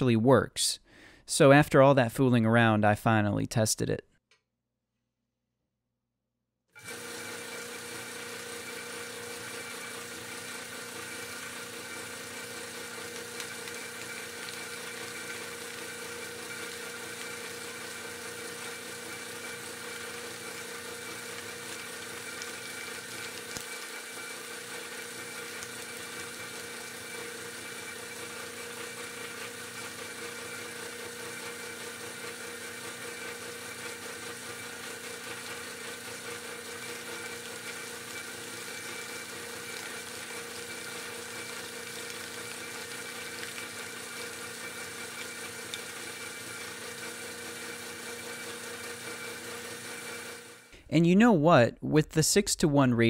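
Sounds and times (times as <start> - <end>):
plastic shredder whirring hum: 6.7 - 50.8.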